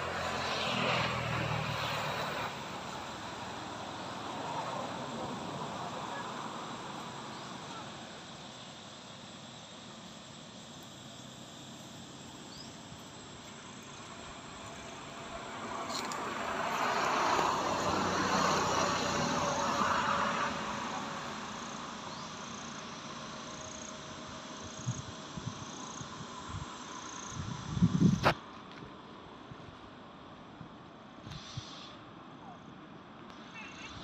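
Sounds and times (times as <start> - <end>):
insects chirping and buzzing: 0.0 - 32.2.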